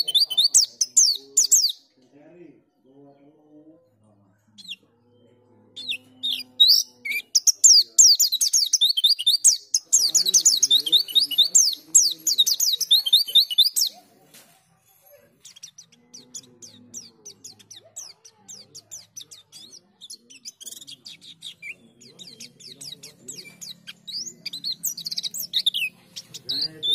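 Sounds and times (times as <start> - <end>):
bird singing chattering song: 0.0 - 2.0, 4.5 - 14.3, 15.0 - 26.9.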